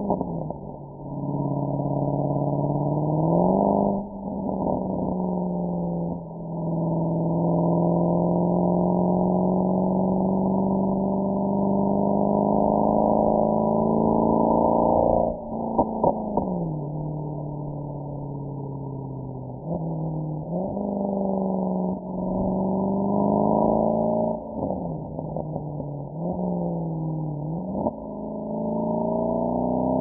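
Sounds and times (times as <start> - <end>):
car exhaust accelerating: 0.0 - 30.0.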